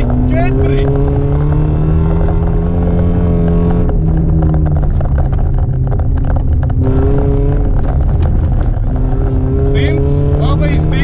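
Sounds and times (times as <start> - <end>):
car engine from inside cabin: 0.0 - 11.0
road noise: 0.0 - 11.0.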